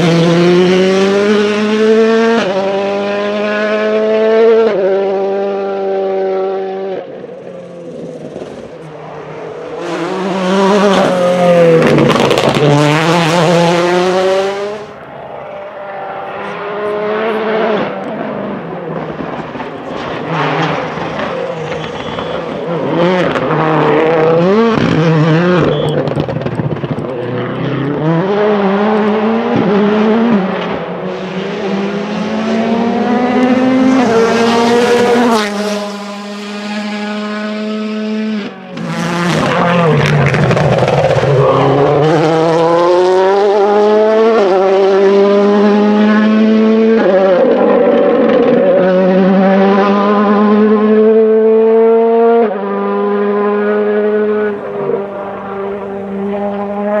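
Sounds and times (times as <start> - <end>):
rally car engine revving past: 0.0 - 57.0.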